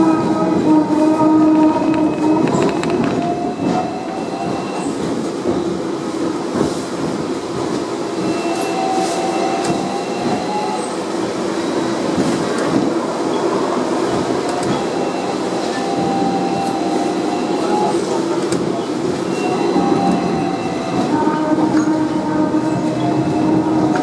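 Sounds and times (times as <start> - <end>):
tram rolling on rails: 0.0 - 24.0.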